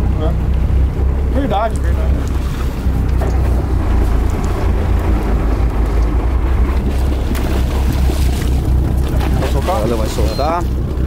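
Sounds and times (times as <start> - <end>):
boat engine low rumble: 0.0 - 11.0
wind buffeting microphone: 0.0 - 11.0.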